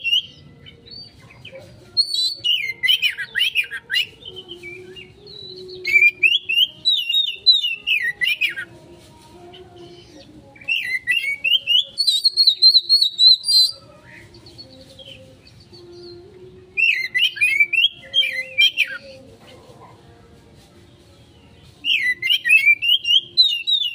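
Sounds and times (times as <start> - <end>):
bird singing rapid chatter: 0.0 - 8.7, 9.5 - 19.2, 21.3 - 23.9.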